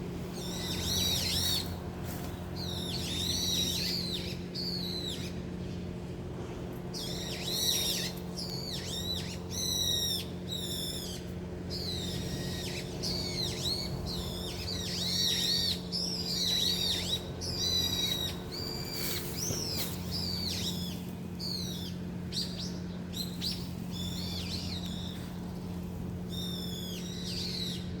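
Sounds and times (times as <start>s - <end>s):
steady low hum: 0.0s - 28.0s
small birds chirping: 0.3s - 5.4s, 7.0s - 28.0s.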